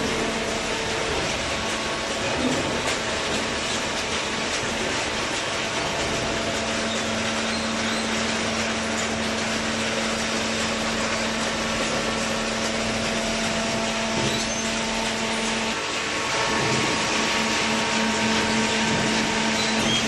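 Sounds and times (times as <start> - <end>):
cardboard shredder machinery running: 0.0 - 20.0.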